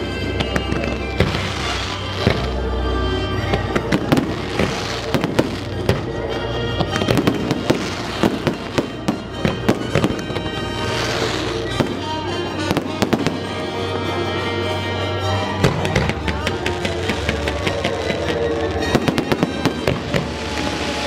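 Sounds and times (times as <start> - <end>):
fireworks bangs and crackles: 0.0 - 2.7, 3.3 - 14.4, 15.3 - 21.0.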